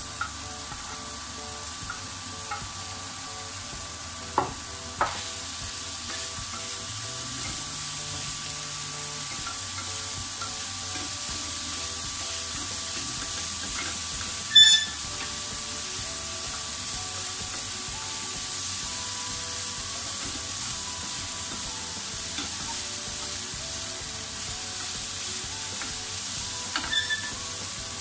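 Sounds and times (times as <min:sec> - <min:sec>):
food sizzling in frying pan: 0:00.0 - 0:28.0.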